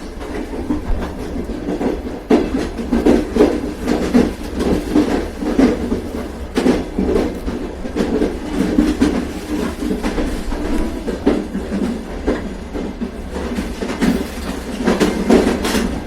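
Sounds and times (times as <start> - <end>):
train rumbling on rails: 0.0 - 16.0
wheels clickety-clack on rail joints: 0.0 - 16.0.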